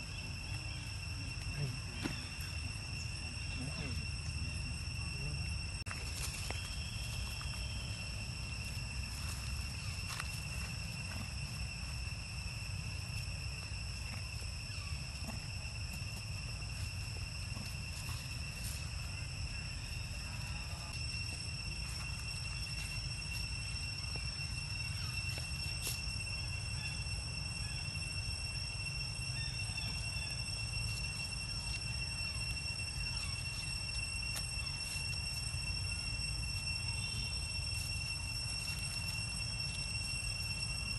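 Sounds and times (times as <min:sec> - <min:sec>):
constant low rumble: 0:00.0 - 0:40.9
high-pitched insect drone: 0:00.0 - 0:40.9.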